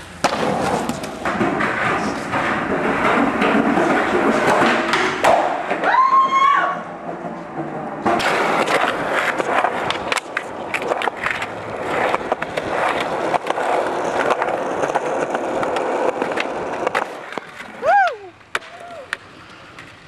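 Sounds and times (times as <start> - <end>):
skateboard wheels rolling on concrete: 0.0 - 20.0.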